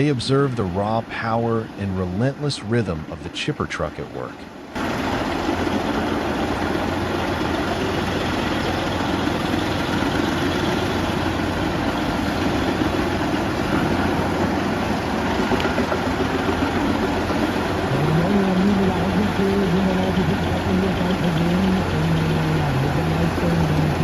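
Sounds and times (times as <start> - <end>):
wood chipper running: 4.7 - 24.0.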